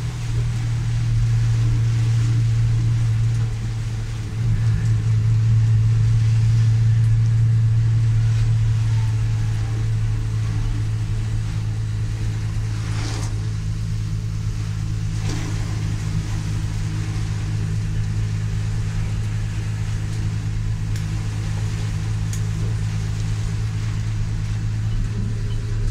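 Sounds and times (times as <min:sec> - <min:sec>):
faint hiss of heavy rain: 0:00.0 - 0:25.9
vehicle engine droning: 0:00.0 - 0:25.9.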